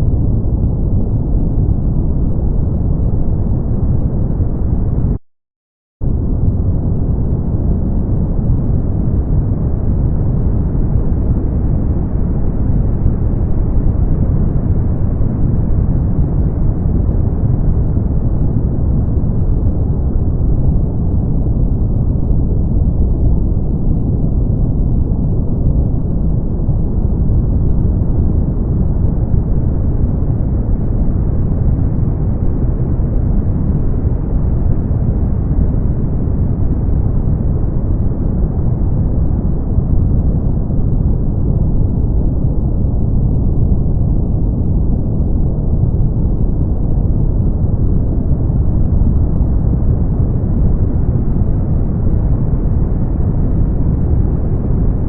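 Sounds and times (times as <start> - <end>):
brown noise rumbling hiss: 6.4 - 55.0.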